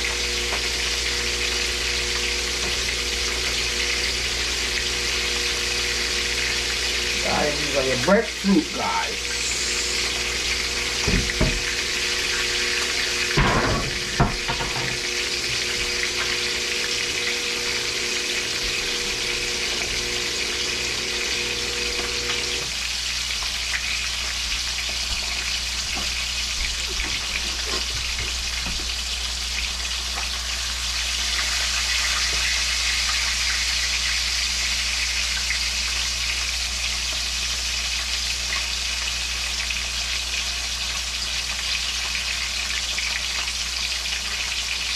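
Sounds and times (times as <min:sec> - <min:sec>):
food sizzling in hot oil: 0:00.0 - 0:44.9.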